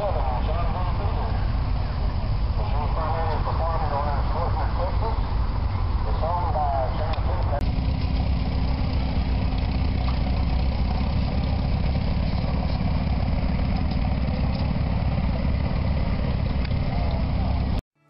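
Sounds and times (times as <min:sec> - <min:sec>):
tractor engine running: 0:00.0 - 0:17.8.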